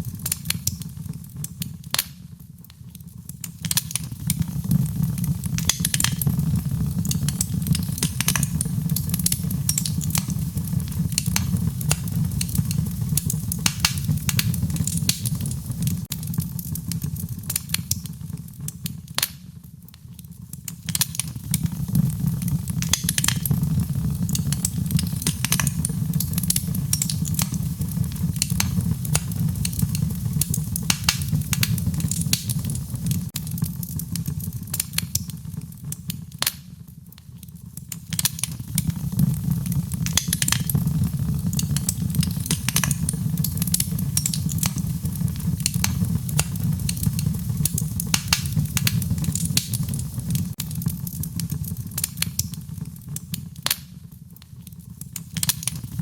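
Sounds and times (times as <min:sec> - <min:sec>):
fire crackles and pops: 0:00.0 - 0:56.0
fire flames rumbling: 0:00.0 - 0:56.0.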